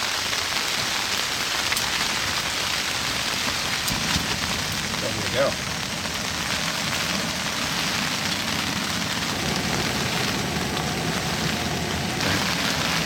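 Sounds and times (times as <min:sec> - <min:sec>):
camp stove burner running: 0:00.0 - 0:13.0
rain on a tent: 0:00.0 - 0:13.0.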